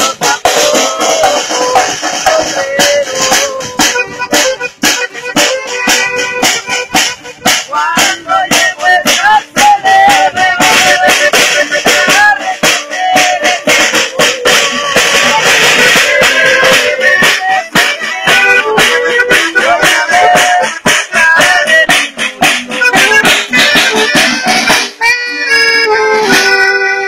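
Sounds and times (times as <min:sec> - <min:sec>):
band playing live: 0:00.0 - 0:27.0
button accordion melody: 0:00.0 - 0:27.0.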